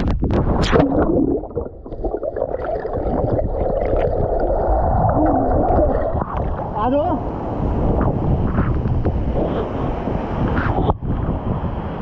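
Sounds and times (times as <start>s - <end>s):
muffled underwater rushing: 0.0s - 11.3s.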